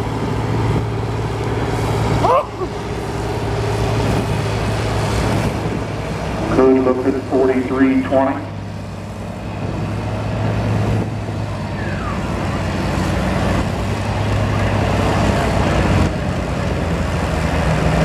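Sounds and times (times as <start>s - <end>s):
tractor engine working under load: 0.0s - 18.0s.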